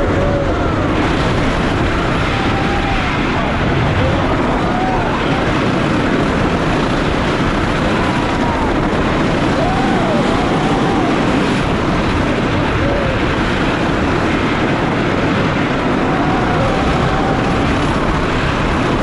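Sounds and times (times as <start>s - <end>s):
roller coaster wheels rumbling: 0.0s - 19.0s
rushing wind: 0.0s - 19.0s.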